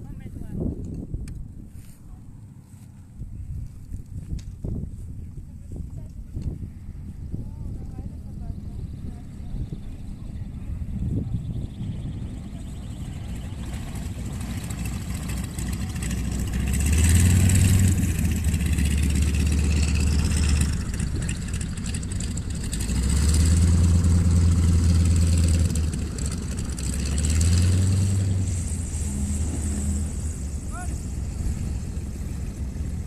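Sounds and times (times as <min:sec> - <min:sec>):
propeller plane engine running: 0:03.2 - 0:33.0.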